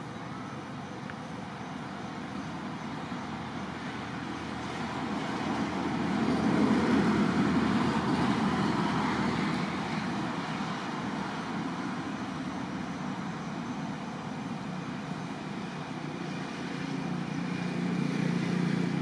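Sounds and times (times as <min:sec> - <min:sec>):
passing road traffic: 0:00.0 - 0:19.0.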